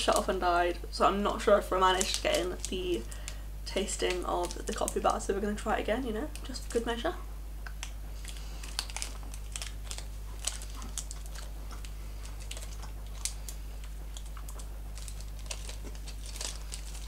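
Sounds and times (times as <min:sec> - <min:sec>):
steady low hum: 0:00.0 - 0:17.0
foil wrapper crinkling: 0:01.3 - 0:06.8, 0:07.8 - 0:17.0.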